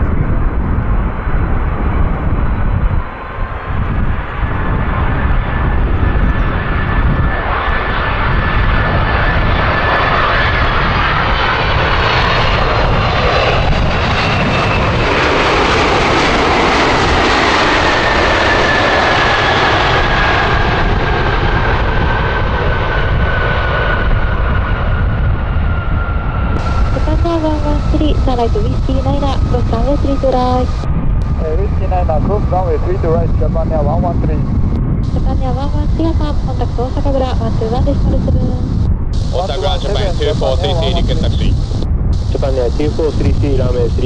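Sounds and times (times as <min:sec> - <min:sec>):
jet engine whine: 0:00.0 - 0:44.0
jet engines roaring: 0:00.0 - 0:44.0.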